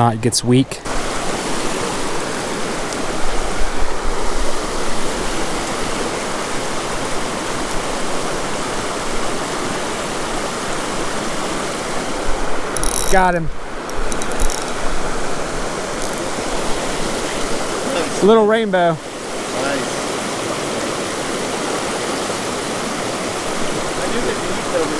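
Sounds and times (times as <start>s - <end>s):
creek water rushing: 0.0s - 24.9s.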